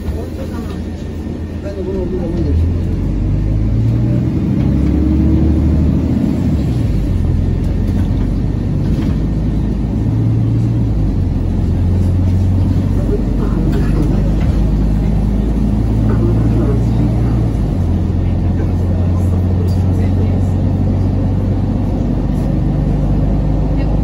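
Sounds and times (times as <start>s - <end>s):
bus engine drone from inside: 0.0s - 24.0s.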